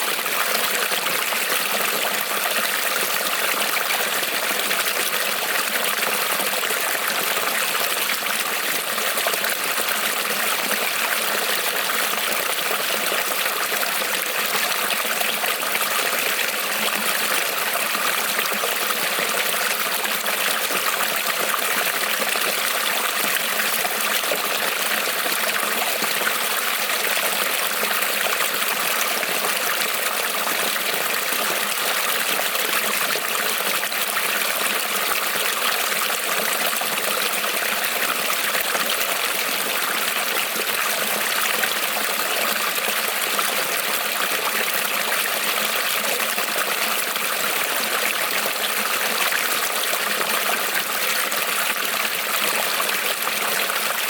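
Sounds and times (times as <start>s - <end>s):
creek trickling over stones: 0.0s - 54.0s.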